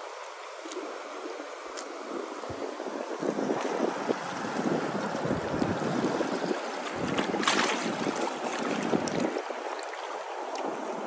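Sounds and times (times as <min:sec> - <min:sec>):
water lapping over pebbles: 0:00.0 - 0:11.0
wind buffeting microphone: 0:01.2 - 0:11.0.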